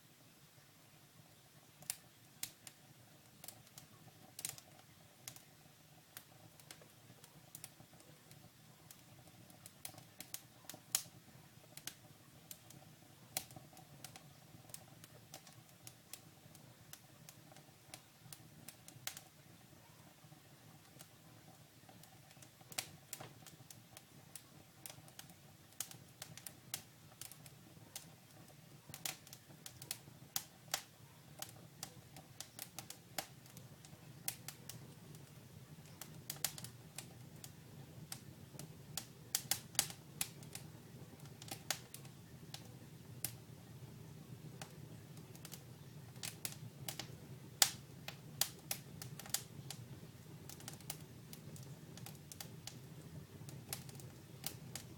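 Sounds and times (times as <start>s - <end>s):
faint low rumble of flames: 0.0s - 54.9s
wood crackling and popping: 1.3s - 54.9s.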